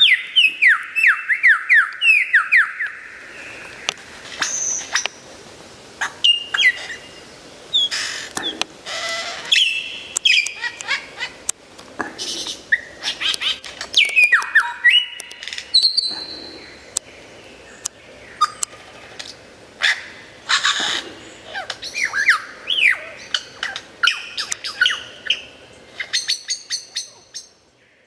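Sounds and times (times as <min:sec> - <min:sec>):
lyrebird singing: 0:00.0 - 0:05.2, 0:06.0 - 0:28.0.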